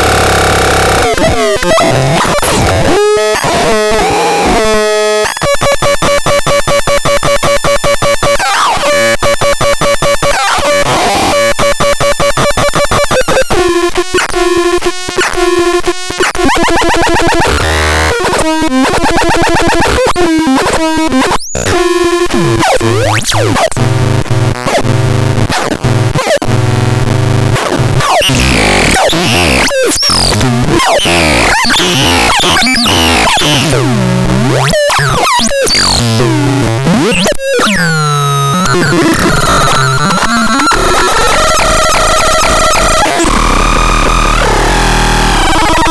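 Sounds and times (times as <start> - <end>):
buzzy synthesizer tones: 0.0 - 9.4, 16.5 - 45.9.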